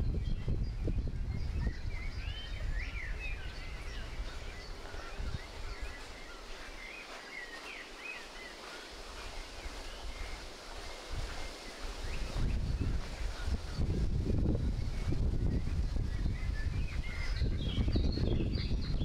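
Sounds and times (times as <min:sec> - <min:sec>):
birds chirping: 0:00.0 - 0:19.0
wind rumble on microphone: 0:00.0 - 0:19.0.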